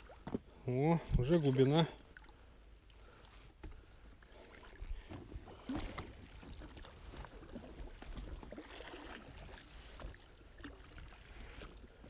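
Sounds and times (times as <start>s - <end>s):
oar splashing water: 0.0s - 12.0s.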